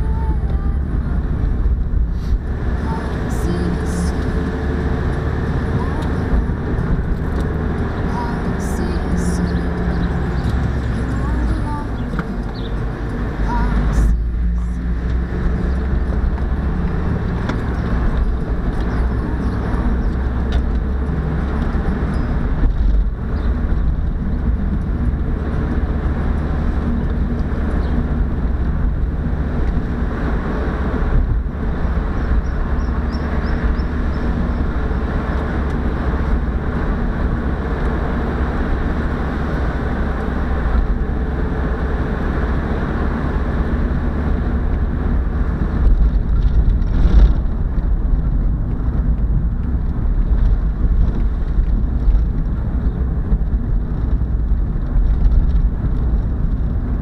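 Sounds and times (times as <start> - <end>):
car engine running: 0.0 - 57.0
tyre and road noise: 0.0 - 57.0.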